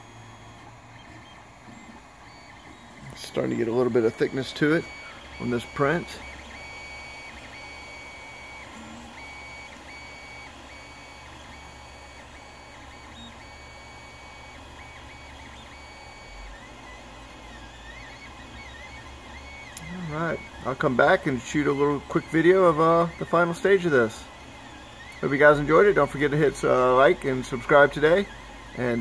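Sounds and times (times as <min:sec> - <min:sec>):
stepper motors whining: 0:00.0 - 0:29.0.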